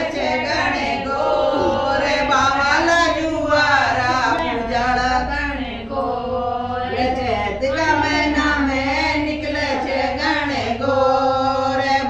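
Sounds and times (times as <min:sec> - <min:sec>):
women singing a folk song together: 0:00.0 - 0:12.0.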